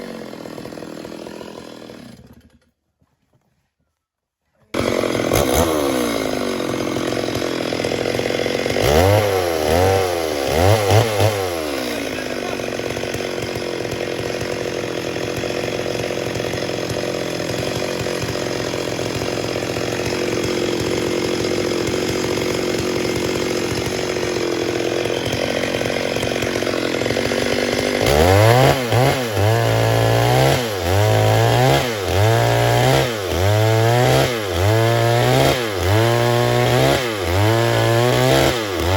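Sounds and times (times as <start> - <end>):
chainsaw revving: 0.0 - 2.8, 4.7 - 38.9.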